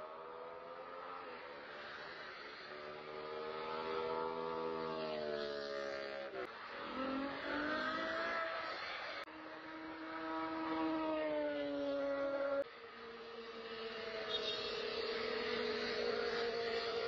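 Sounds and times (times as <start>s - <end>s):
cars accelerating past: 0.0s - 12.7s, 13.5s - 17.0s.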